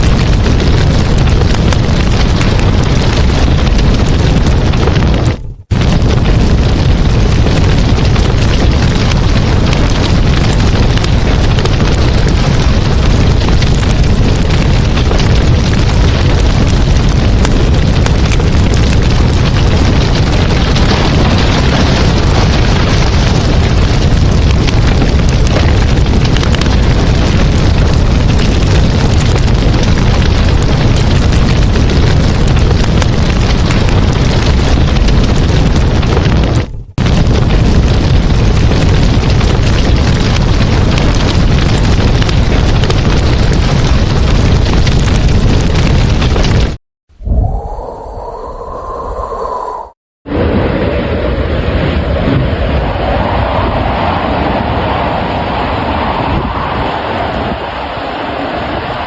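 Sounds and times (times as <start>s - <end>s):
strong wind on microphone: 0.0s - 59.0s.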